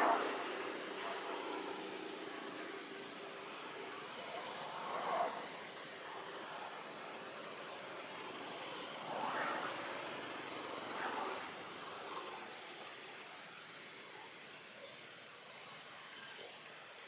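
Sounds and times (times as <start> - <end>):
distant drone: 0.0 - 17.0
high-pitched insect whine: 0.0 - 17.0.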